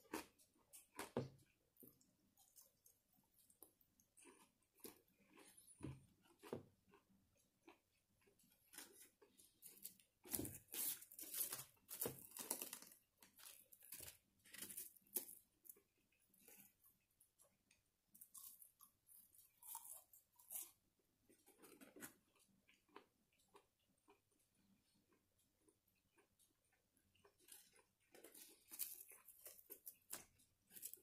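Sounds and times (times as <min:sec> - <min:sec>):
person chewing food: 0:00.0 - 0:31.0.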